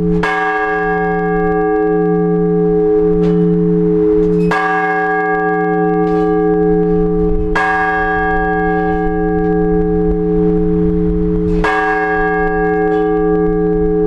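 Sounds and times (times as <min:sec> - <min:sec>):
heavy church bell strokes: 0:00.0 - 0:14.0.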